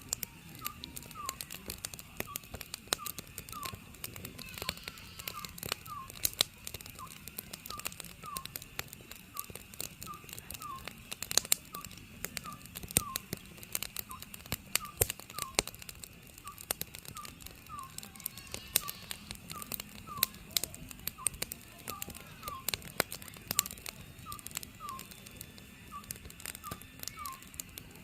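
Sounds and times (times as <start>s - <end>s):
firewood popping and crackling: 0.0s - 28.0s
owl whistled notes: 0.5s - 3.8s, 4.4s - 8.6s, 9.3s - 10.9s, 11.6s - 13.4s, 14.1s - 15.7s, 16.4s - 27.7s.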